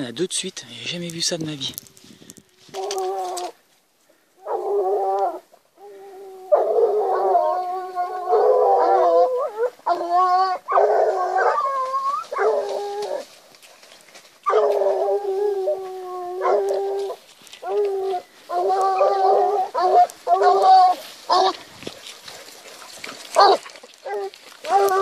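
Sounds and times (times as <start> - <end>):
hounds baying: 4.3 - 25.0.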